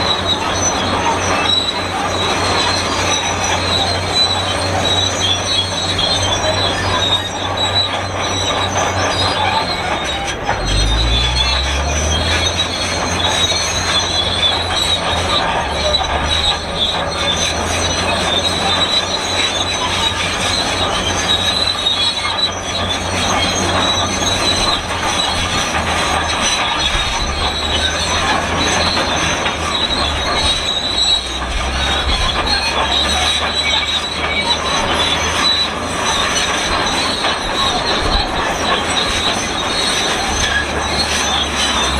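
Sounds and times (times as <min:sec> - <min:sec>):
bulldozer tracks squealing: 0:00.0 - 0:41.9
diesel engine running: 0:00.0 - 0:41.9.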